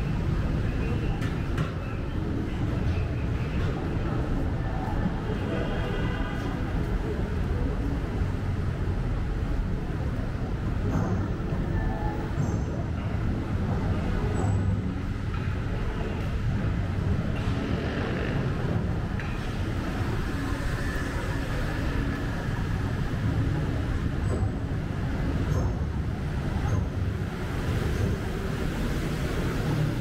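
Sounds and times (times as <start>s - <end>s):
street traffic: 0.0s - 30.0s.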